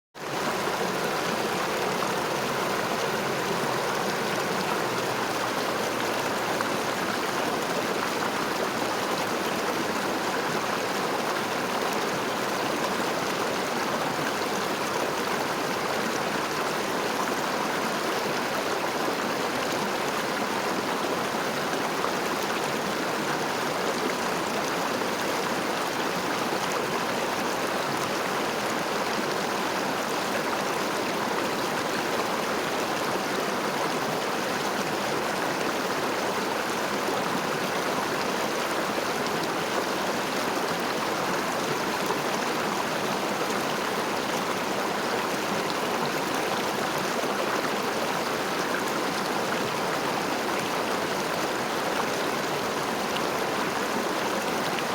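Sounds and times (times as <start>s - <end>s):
river flowing: 0.2s - 54.9s.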